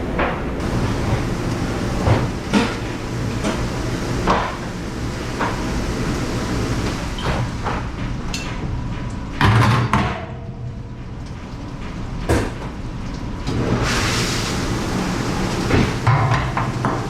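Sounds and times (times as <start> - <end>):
low machine rumble: 0.0 - 9.5, 10.2 - 17.0.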